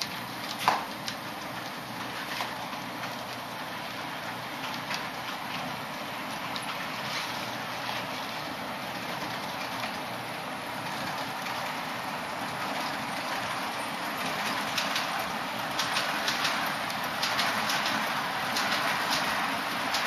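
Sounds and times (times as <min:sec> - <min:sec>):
wheels clicking over rail joints: 0:00.0 - 0:20.0.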